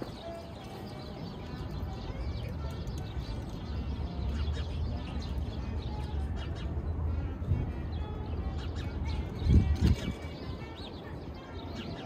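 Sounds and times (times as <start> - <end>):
low city hum: 0.0 - 12.0
small birds chirping: 0.0 - 12.0.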